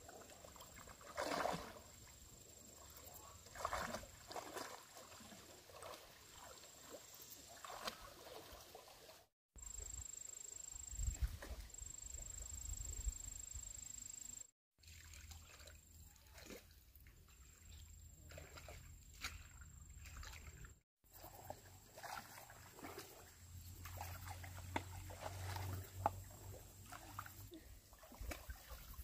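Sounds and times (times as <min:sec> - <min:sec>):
water trickling and splashing: 0:00.0 - 0:09.3, 0:14.8 - 0:29.0.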